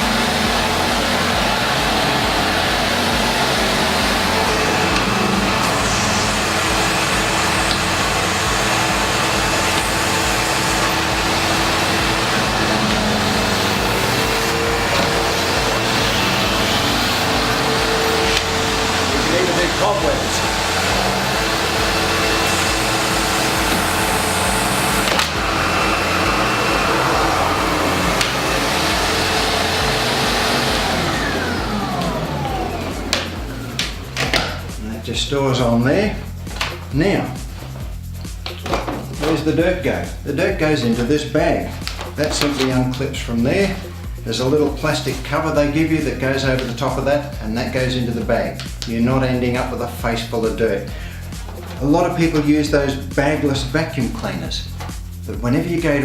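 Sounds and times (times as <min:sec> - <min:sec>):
upright vacuum cleaner running: 0:00.0 - 0:56.0.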